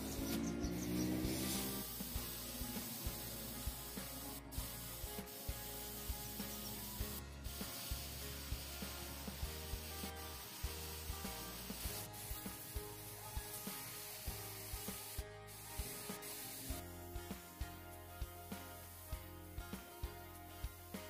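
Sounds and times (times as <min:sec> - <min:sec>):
airbrush hissing: 0:00.0 - 0:16.8, 0:18.4 - 0:19.2.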